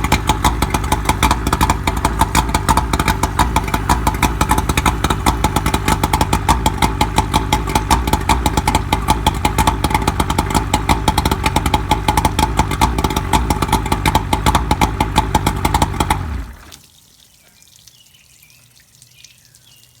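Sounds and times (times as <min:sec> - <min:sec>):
outboard motor idling: 0:00.0 - 0:16.8.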